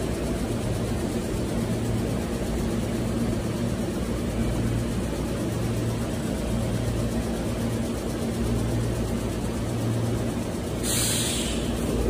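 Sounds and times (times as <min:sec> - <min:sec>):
electric train low hum: 0:00.0 - 0:12.0.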